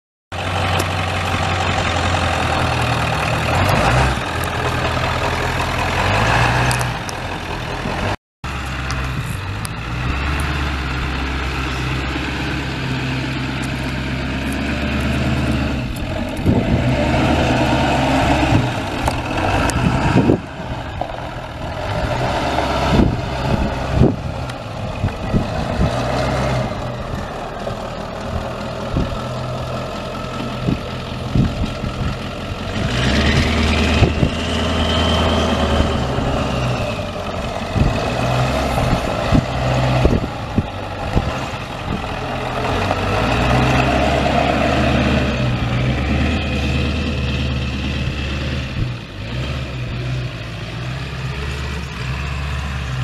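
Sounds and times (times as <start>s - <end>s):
diesel engine idling: 0.3s - 53.0s.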